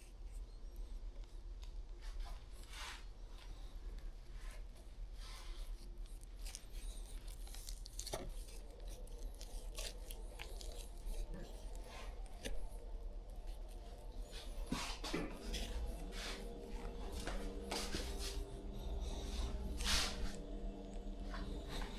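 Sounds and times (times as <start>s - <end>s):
steady low hum: 0.0s - 21.9s
hands rustling and scraping: 2.0s - 21.9s.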